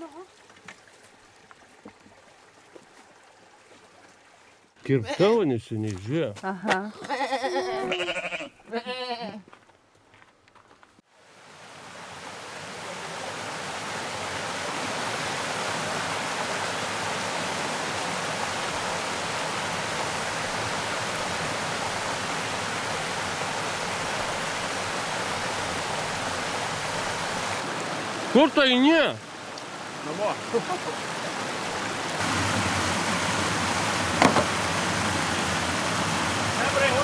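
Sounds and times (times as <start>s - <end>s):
running water rushing: 0.0s - 6.3s, 11.2s - 37.0s.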